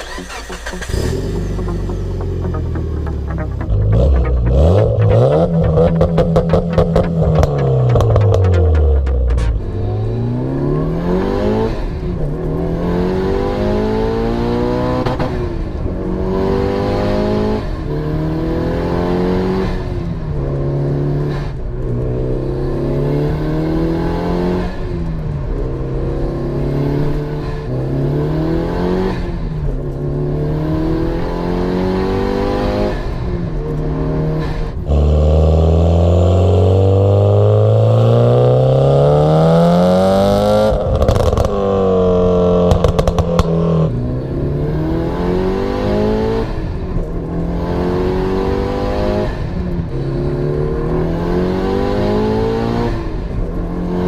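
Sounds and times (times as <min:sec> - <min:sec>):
car engine accelerating hard: 0:00.0 - 0:54.0
car exhaust roaring: 0:00.0 - 0:54.0.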